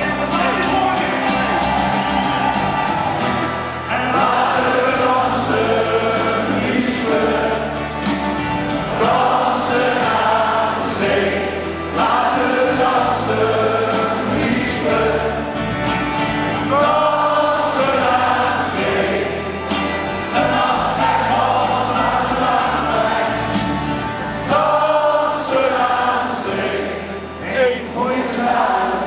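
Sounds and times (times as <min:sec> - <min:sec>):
accordion: 0:00.0 - 0:29.0
acoustic guitars: 0:00.0 - 0:29.0
crowd singing together: 0:00.0 - 0:29.0.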